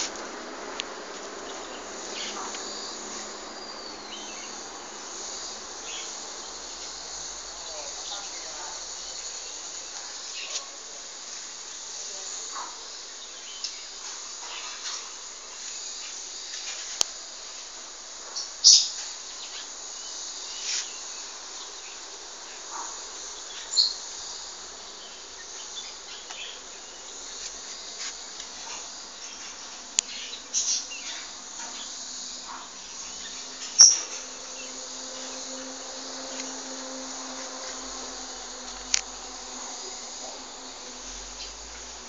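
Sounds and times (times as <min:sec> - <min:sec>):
insects hissing: 0:00.0 - 0:42.0.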